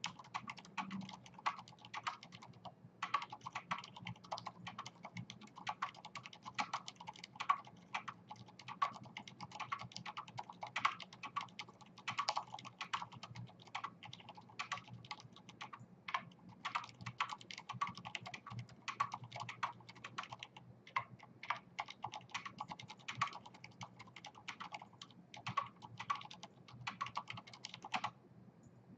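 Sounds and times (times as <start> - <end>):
mechanical keyboard typing: 0.0 - 28.1.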